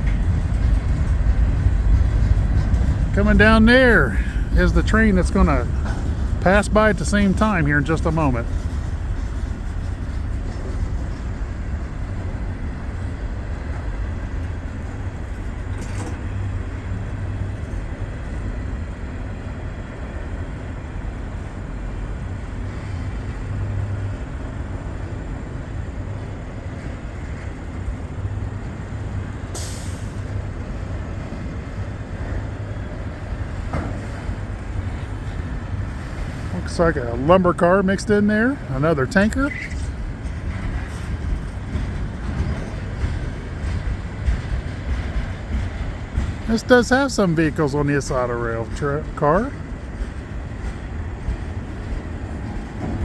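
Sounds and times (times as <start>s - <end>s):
train air hiss: 0.0s - 53.0s
train wheels rumbling on rail: 0.0s - 53.0s.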